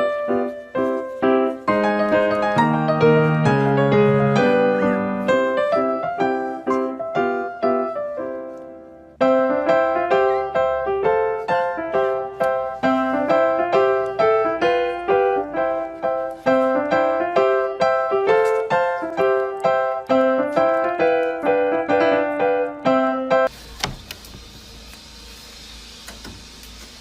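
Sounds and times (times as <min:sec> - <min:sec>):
bouncy piano music: 0:00.0 - 0:23.5.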